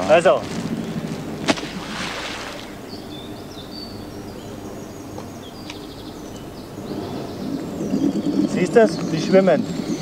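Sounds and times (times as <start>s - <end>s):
outdoor background rush: 0.0s - 10.0s
small birds chirping and twittering: 0.0s - 10.0s.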